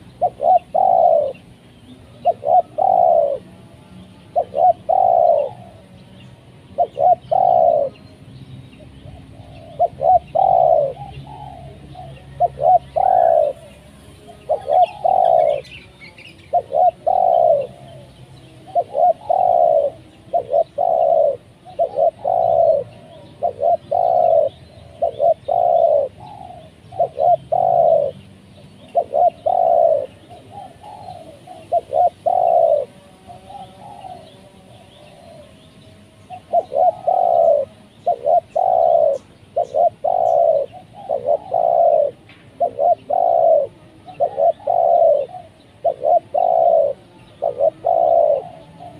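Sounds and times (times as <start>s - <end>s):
dove cooing: 0.0s - 48.9s
small birds chirping: 0.0s - 48.9s.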